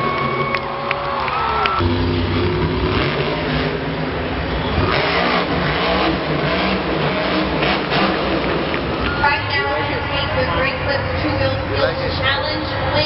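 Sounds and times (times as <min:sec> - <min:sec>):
truck engine revving hard: 0:01.7 - 0:13.0.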